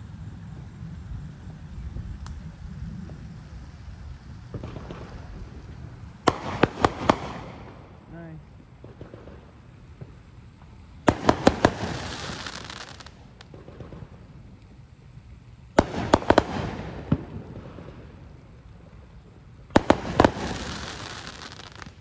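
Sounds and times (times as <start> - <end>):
fireworks bangs: 0.0 - 14.6, 15.7 - 18.7, 19.6 - 22.0.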